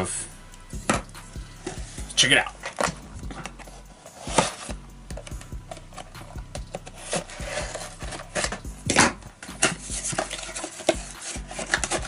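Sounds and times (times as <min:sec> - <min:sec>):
cardboard and plastic scraping: 0:01.6 - 0:12.0.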